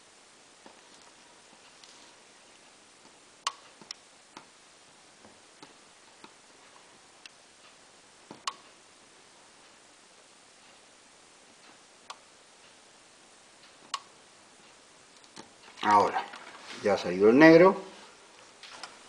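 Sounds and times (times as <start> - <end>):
quiet steady hiss: 0.0 - 19.0.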